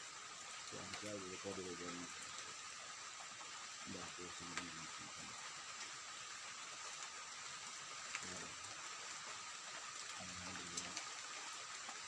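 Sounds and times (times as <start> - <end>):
forest ambience hiss: 0.0 - 12.0.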